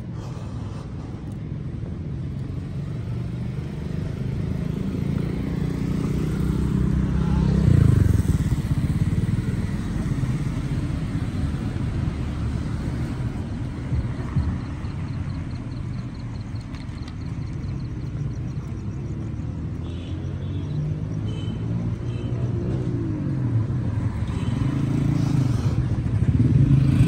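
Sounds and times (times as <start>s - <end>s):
road traffic rumble: 0.0s - 27.0s
vehicle passing by: 0.0s - 27.0s.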